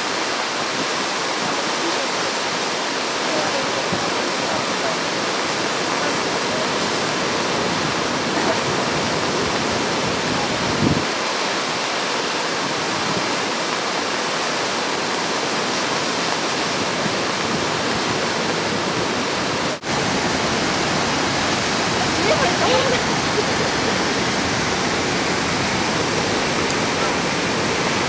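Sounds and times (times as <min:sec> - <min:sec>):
mountain stream rushing over rocks: 0:00.0 - 0:28.0.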